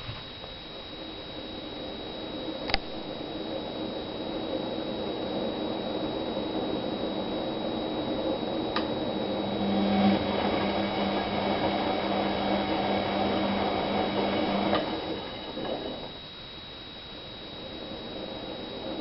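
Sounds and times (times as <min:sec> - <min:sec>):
high electrical whine: 0:00.0 - 0:19.0
washing machine motor hum: 0:00.0 - 0:19.0.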